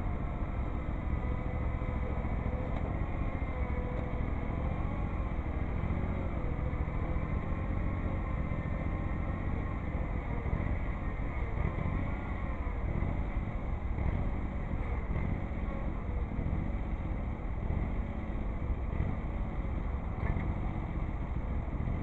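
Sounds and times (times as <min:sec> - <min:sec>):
faint wavering whine: 0:00.0 - 0:22.0
tractor engines running: 0:00.0 - 0:22.0.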